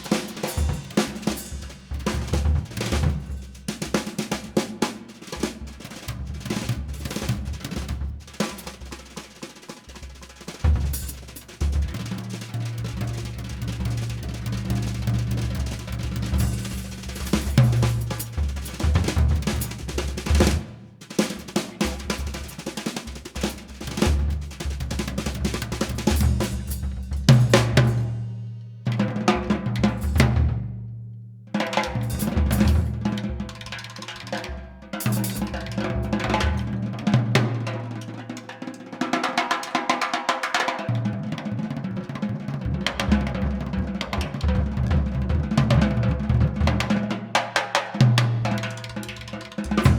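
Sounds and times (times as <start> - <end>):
drum-kit beat: 0.0 - 28.3, 31.8 - 38.4, 43.0 - 49.9.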